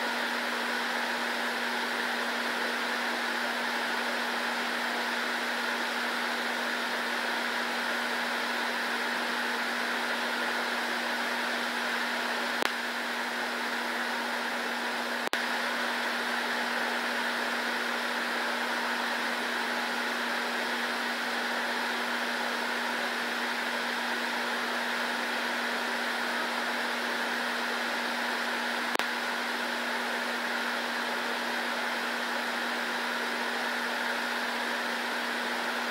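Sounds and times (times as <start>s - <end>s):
room fan whirring: 0.0s - 35.9s.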